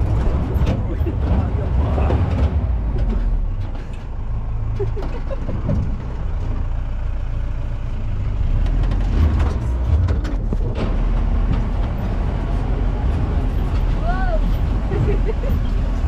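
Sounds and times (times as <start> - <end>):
car body rattling and knocking: 0.0 - 4.2, 4.8 - 6.7, 8.7 - 16.0
jeep engine low rumble: 0.0 - 16.0.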